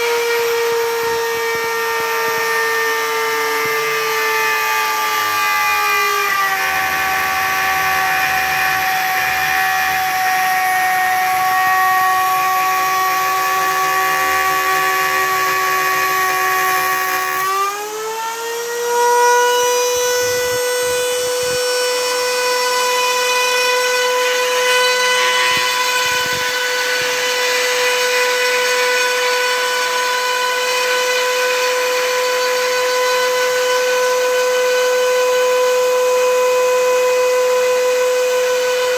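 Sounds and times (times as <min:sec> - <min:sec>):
hiss of bit cutting wood: 0:00.0 - 0:33.6
router spindle motor whining: 0:00.0 - 0:38.9.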